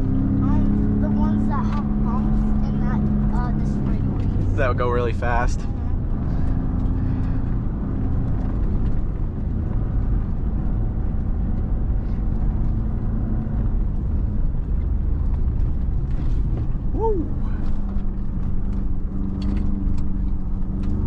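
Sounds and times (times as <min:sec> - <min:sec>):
truck engine and tyres rumbling: 0:00.0 - 0:21.0.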